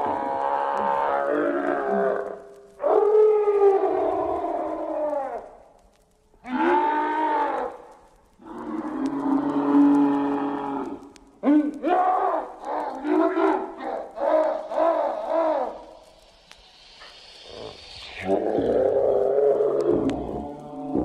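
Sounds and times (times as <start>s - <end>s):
long screams bending down in pitch: 0.0s - 5.7s, 6.4s - 21.0s.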